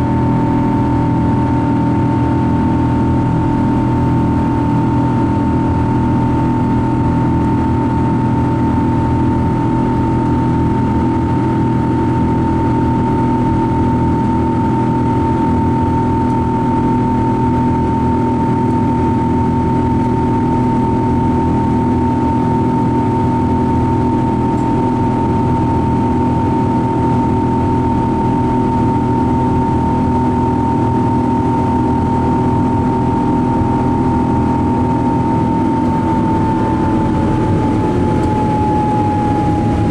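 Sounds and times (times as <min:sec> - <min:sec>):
aircraft engine hum in cabin: 0:00.0 - 0:39.9.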